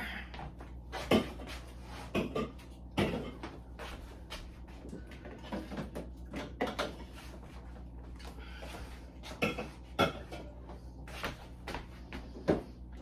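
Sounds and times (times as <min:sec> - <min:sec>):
refrigerator hum: 0:00.0 - 0:13.0.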